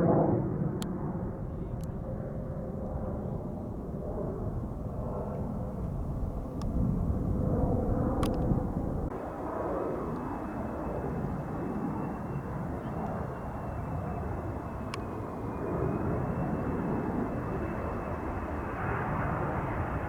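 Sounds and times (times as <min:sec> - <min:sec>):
distant jet engine rumble: 0:00.0 - 0:20.0.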